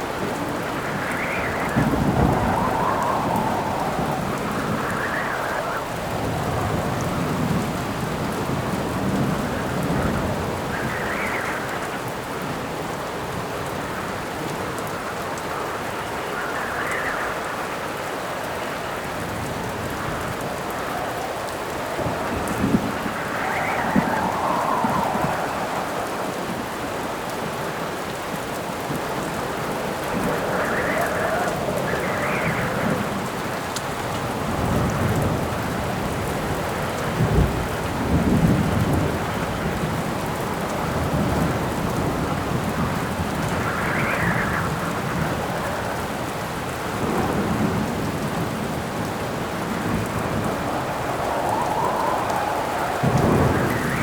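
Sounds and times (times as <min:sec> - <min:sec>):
heavy rain: 0:00.0 - 0:54.0
thunder rumbling: 0:00.0 - 0:54.0
wind gusts howling: 0:00.0 - 0:54.0.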